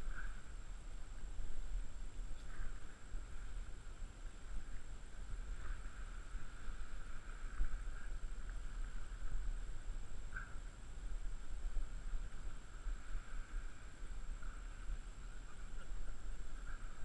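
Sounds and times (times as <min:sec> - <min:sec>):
muffled wind and water rumble: 0:00.0 - 0:17.0.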